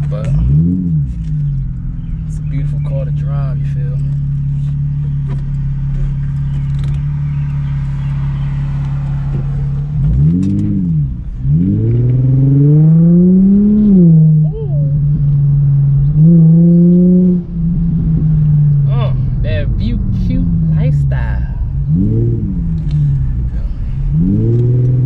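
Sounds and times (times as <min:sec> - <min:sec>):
car engine heard from inside: 0:00.0 - 0:25.0.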